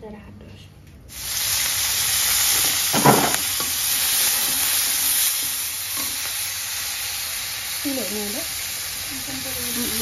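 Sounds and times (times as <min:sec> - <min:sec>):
vegetables sizzling in hot oil: 0:01.1 - 0:10.0.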